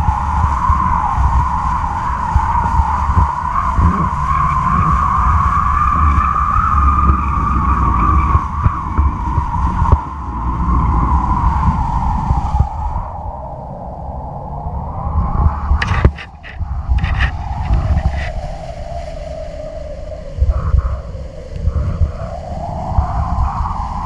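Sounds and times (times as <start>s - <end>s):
kite lines humming: 0.0s - 24.0s
low wind buffeting on microphone: 0.0s - 24.0s
wind rushing: 0.0s - 24.0s.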